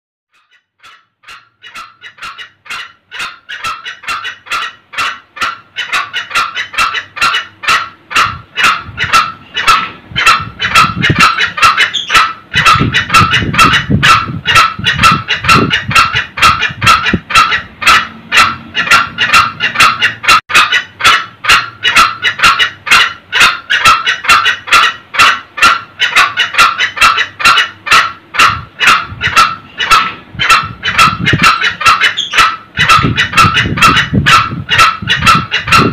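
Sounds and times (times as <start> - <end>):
junglefowl kek calls: 0.4 - 35.9.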